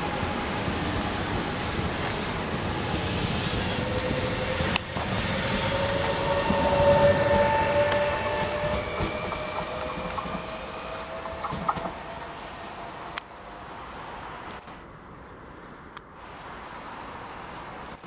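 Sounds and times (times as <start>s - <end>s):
train wheels rumbling on rail: 0.0s - 14.9s
faint train whine: 0.0s - 18.0s.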